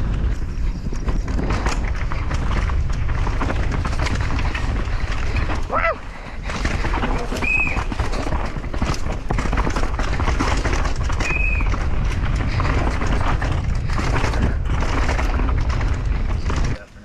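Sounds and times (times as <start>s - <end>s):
wind rumble: 0.0s - 16.9s
bike tyres and frame rattling: 0.0s - 17.0s.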